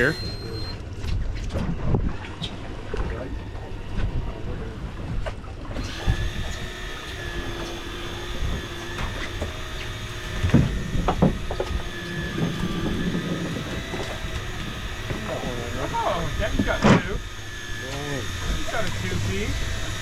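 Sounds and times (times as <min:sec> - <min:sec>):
fishing reel motor whine: 0:00.0 - 0:01.0, 0:01.8 - 0:20.0
boat rumble: 0:00.0 - 0:20.0.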